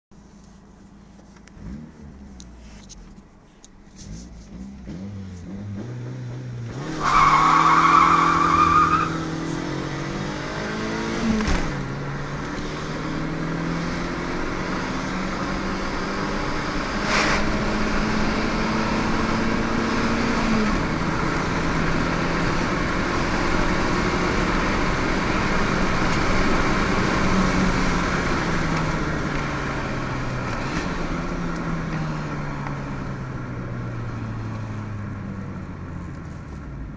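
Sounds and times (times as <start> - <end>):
car engine accelerating: 1.1 - 36.9.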